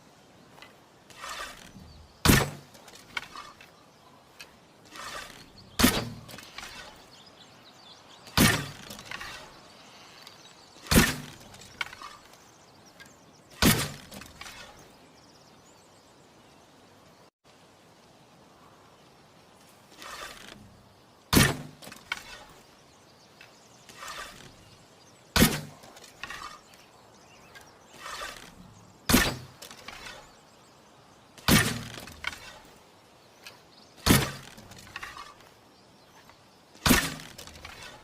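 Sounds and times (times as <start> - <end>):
soft rustle: 0.0 - 13.2, 17.5 - 38.0.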